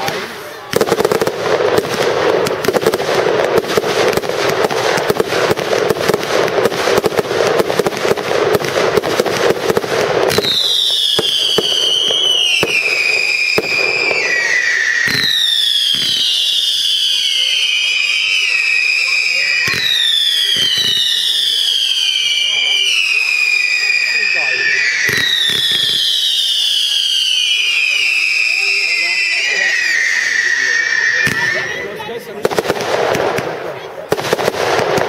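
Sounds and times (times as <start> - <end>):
fireworks crackling pops: 0.0 - 35.0
whistling fireworks: 0.0 - 35.0.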